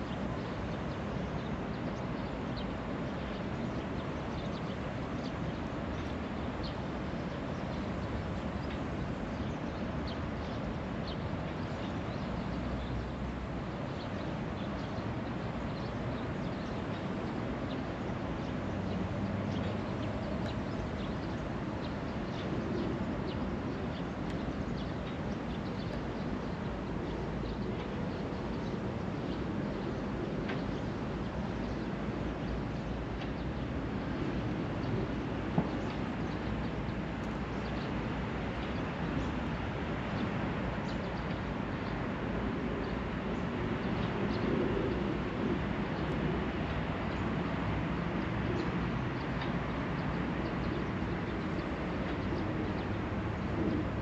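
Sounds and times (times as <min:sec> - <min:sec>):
distant city traffic rumble: 0:00.0 - 0:54.0.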